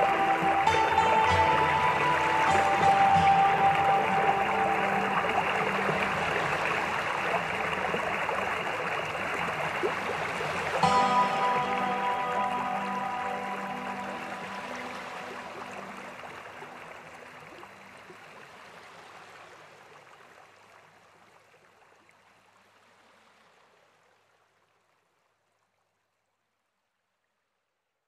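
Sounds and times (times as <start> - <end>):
running water stream: 0.0 - 27.4.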